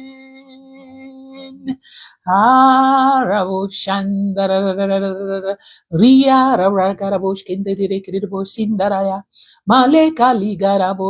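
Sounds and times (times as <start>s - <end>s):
solo voice singing held notes: 0.0s - 11.0s.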